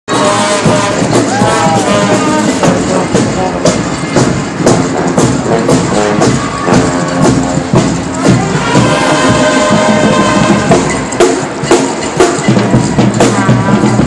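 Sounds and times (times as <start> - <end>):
marching band brass: 0.1 - 14.0
steady drum beat: 0.1 - 14.0.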